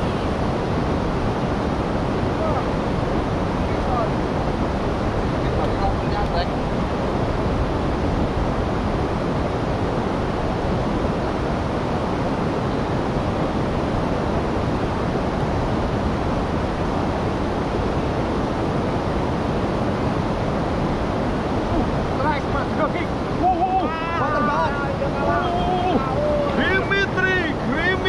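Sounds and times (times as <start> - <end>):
river water rushing over weir: 0.0 - 28.0.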